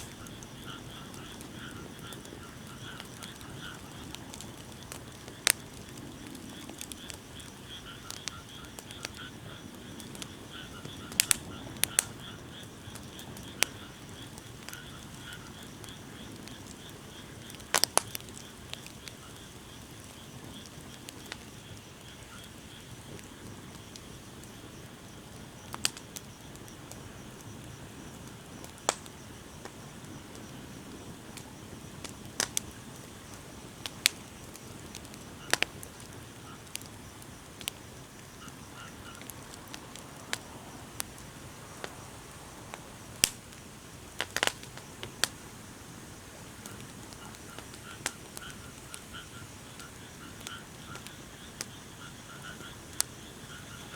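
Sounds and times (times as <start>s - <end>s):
bonfire crackling and popping: 0.0s - 53.9s
low hiss of burning: 0.0s - 53.9s.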